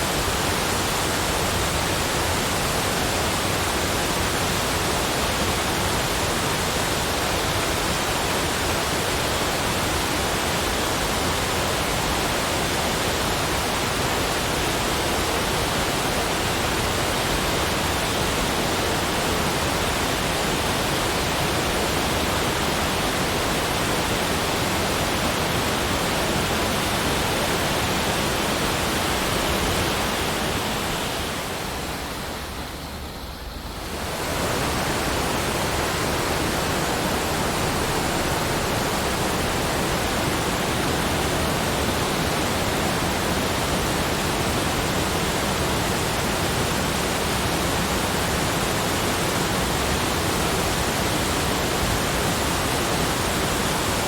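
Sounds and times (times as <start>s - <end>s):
steady rushing hiss: 0.0s - 54.0s.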